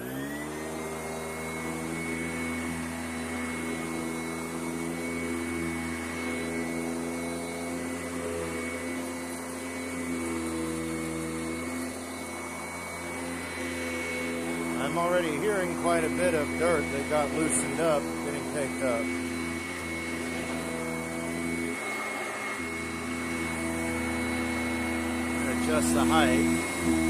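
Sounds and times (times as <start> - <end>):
vacuum cleaner motor whining: 0.0 - 27.0.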